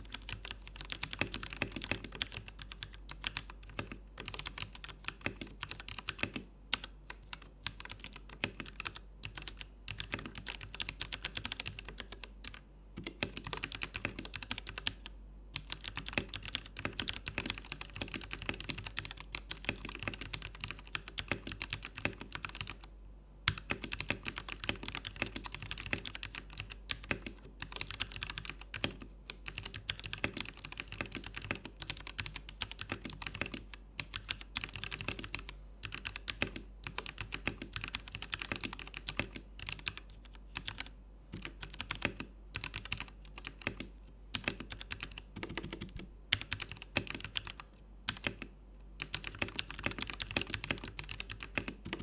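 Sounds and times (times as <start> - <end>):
mechanical keyboard typing: 0.0 - 22.9, 23.5 - 52.0.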